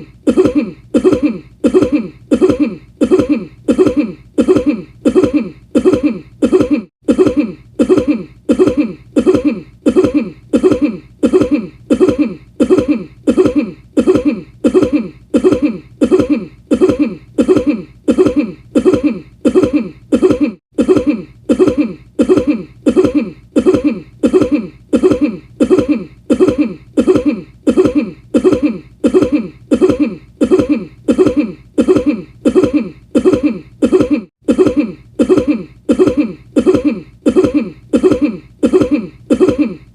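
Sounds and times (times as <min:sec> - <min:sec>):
short cough: 0:00.0 - 0:39.9.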